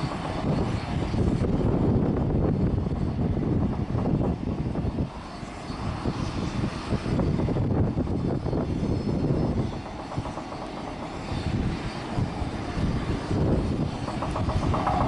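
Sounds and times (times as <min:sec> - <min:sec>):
aircraft engine noise: 0:00.0 - 0:15.0
wind buffeting microphone: 0:00.0 - 0:15.0.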